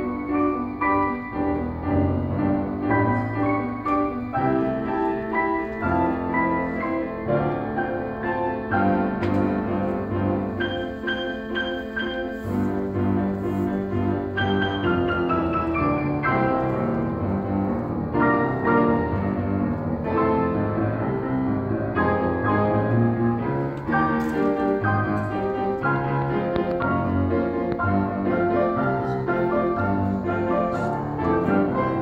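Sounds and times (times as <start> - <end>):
pianos playing chords: 0.0 - 32.0.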